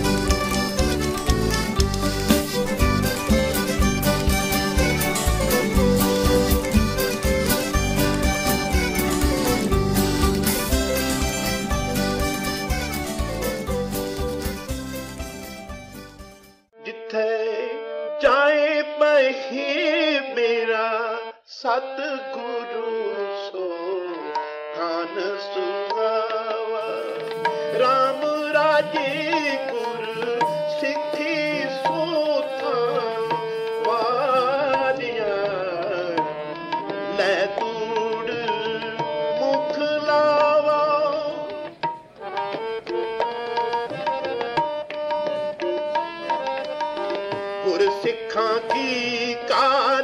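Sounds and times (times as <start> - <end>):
percussion: 0.0 - 16.6, 25.9 - 50.0
held instrumental notes: 0.0 - 16.8, 25.8 - 50.0.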